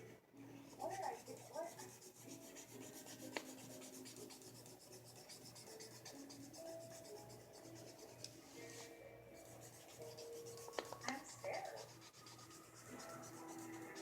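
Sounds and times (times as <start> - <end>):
pencil scratching on paper: 0.7 - 14.0.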